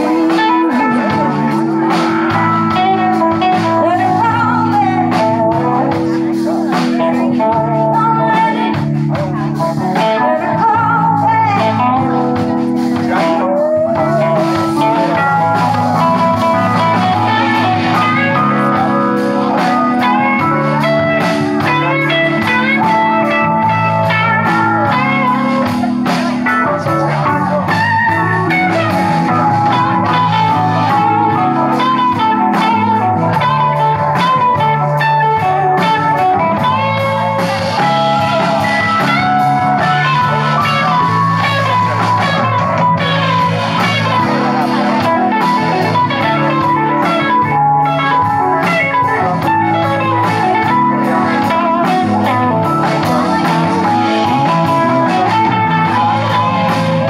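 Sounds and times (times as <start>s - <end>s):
band playing blues rock: 0.0s - 57.0s.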